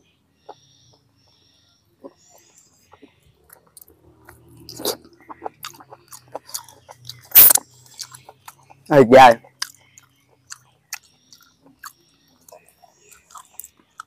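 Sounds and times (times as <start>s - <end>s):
chewing and mouth smacking: 2.3s - 14.0s.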